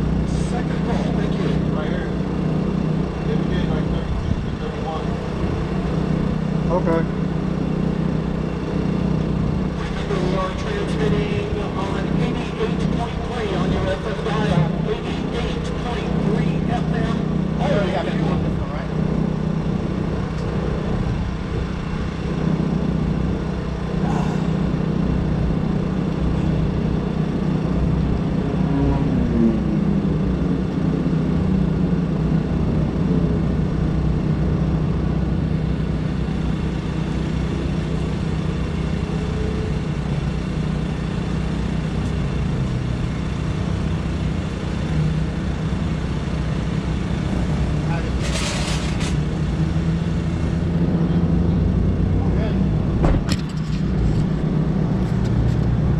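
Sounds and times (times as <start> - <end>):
faint engine passing: 0.0 - 33.6, 36.0 - 55.9
steady low motor hum: 0.0 - 55.9.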